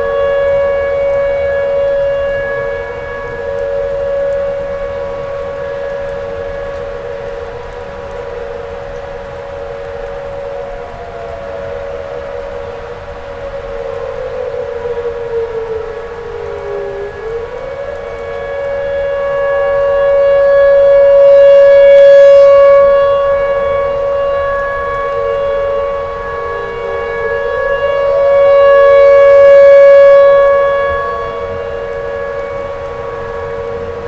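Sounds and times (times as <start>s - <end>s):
tornado siren wailing: 0.0s - 34.0s.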